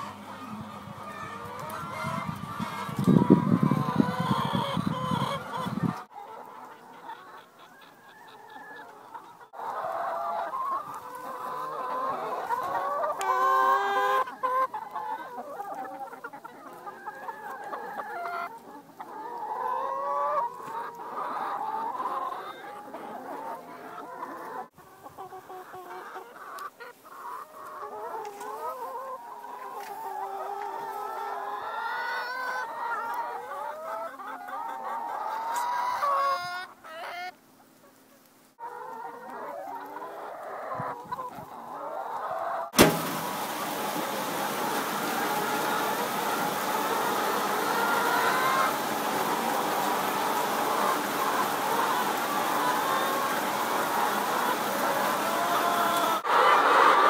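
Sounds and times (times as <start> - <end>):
hens clucking: 0.0 - 57.0.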